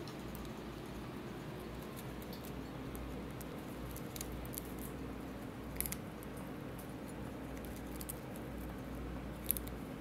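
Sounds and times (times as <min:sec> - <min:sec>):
bird pecking at popcorn: 0:00.0 - 0:10.0.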